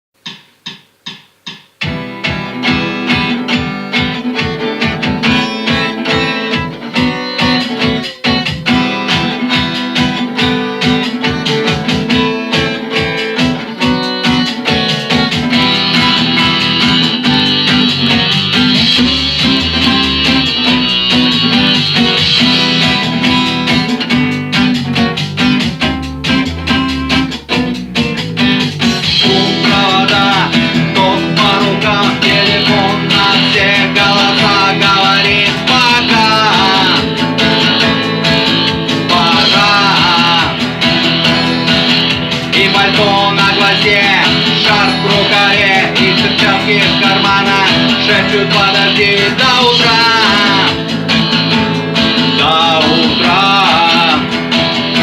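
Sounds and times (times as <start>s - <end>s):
instrumental rock on guitars: 1.1s - 55.0s.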